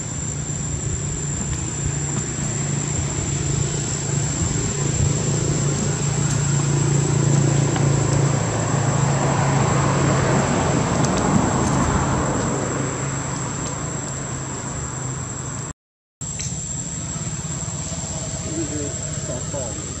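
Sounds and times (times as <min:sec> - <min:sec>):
low engine hum: 0:00.0 - 0:20.0
road noise: 0:00.0 - 0:20.0.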